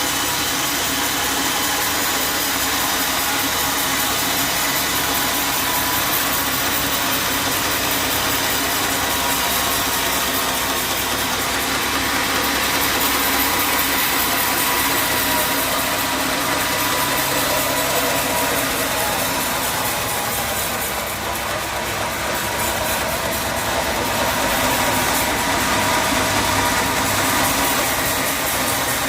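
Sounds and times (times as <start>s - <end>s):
sawmill machinery drone: 0.0s - 29.0s.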